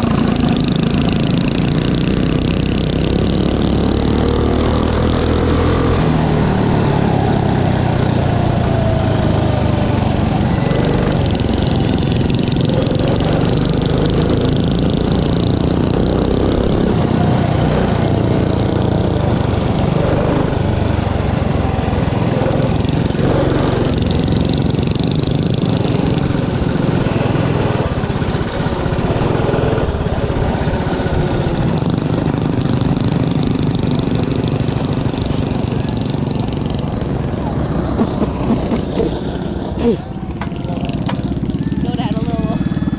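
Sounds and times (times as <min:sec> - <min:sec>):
mini bike engines revving: 0:00.0 - 0:42.9.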